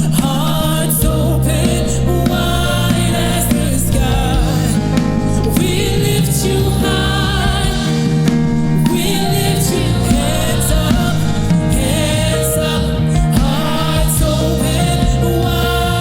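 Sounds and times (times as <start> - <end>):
person singing gospel song: 0.0 - 16.0
sustained instrumental chords and bass: 0.0 - 16.0.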